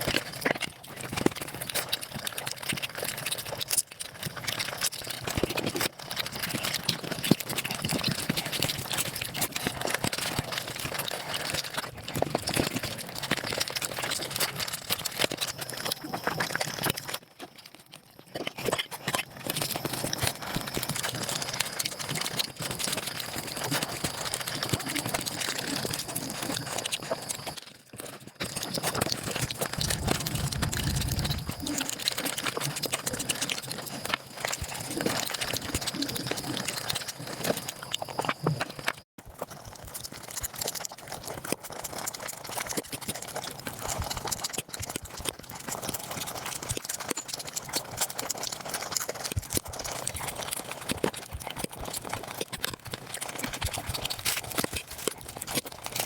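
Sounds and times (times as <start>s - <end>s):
sped-up chewing and mouth sounds: 0.0s - 56.0s.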